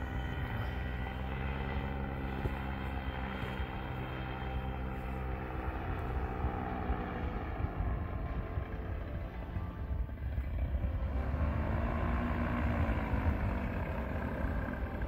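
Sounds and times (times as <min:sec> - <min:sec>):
paramotor engine droning overhead: 0:00.0 - 0:15.0.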